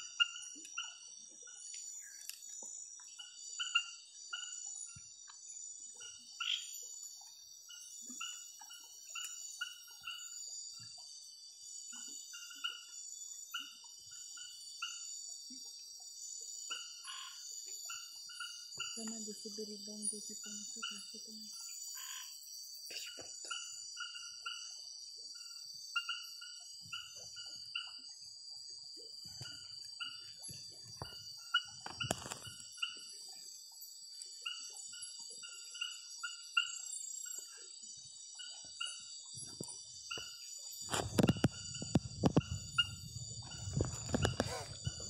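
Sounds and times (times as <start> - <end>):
high-pitched insect trill: 0.0 - 45.0.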